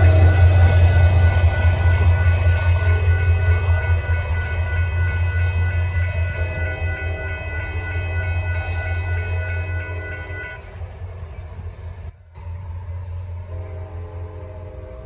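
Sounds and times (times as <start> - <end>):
diesel train rumbling: 0.0 - 15.0
railroad crossing bells ringing: 0.0 - 15.0.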